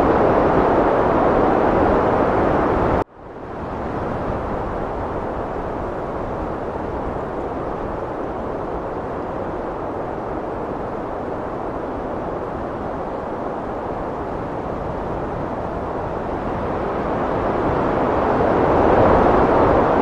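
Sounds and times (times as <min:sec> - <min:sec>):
heavy wind blowing: 0:00.0 - 0:20.0.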